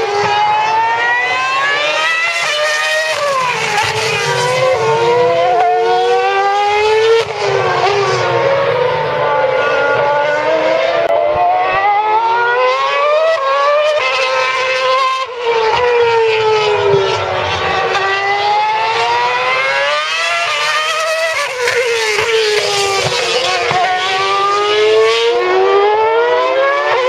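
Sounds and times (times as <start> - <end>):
racing car engines at high revs: 0.0 - 27.0.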